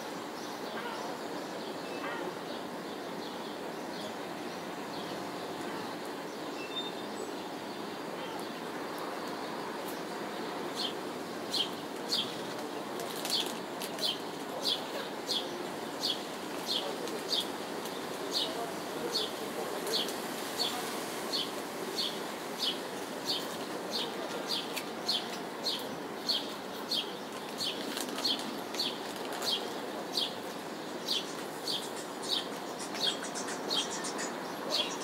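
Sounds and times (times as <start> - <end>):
distant city noise: 0.0 - 35.0.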